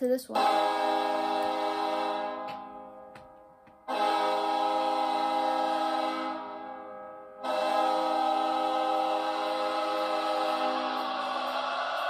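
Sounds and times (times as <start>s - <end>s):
arena goal horn blasts: 0.4s - 11.4s.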